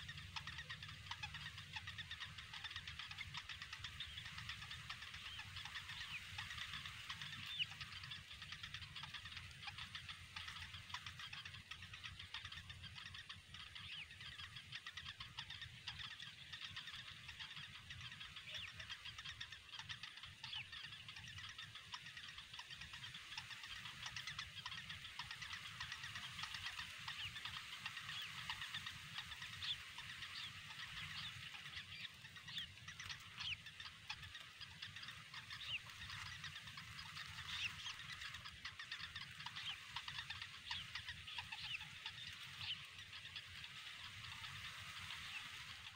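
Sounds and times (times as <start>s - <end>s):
nestlings chirping: 0.0s - 45.9s.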